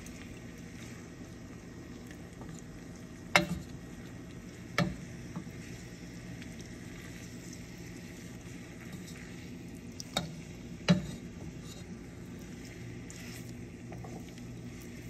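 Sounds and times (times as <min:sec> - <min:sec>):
tofu sizzling in oil: 0:00.0 - 0:15.0.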